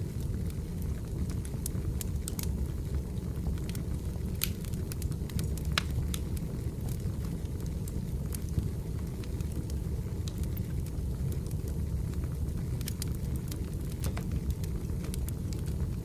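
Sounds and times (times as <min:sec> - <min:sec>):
firewood crackling and popping: 0:00.0 - 0:16.0.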